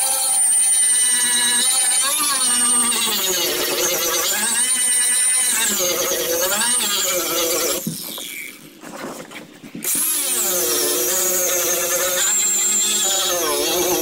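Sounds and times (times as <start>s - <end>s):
electric grinder sanding fiberglass: 0.0s - 8.5s, 9.8s - 14.0s.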